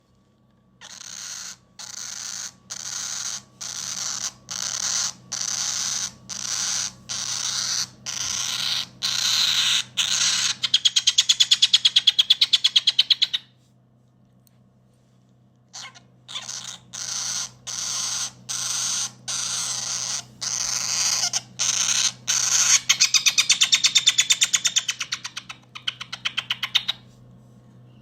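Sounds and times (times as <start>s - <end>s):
rapid pulsing bird call: 0.8s - 13.4s, 15.8s - 27.0s
cockatoo chick raspy hissing calls: 0.8s - 13.6s, 15.8s - 27.1s.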